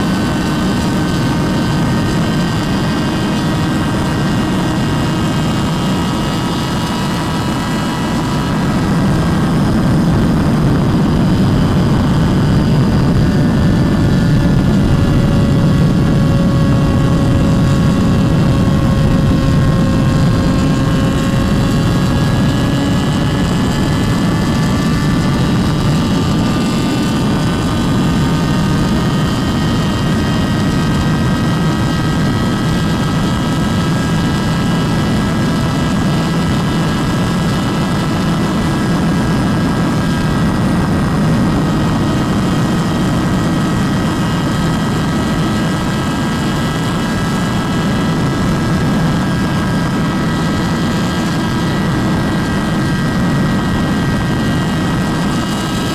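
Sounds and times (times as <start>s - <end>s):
motorcycle engine whine: 0.0s - 55.9s
wind rush: 0.0s - 55.9s.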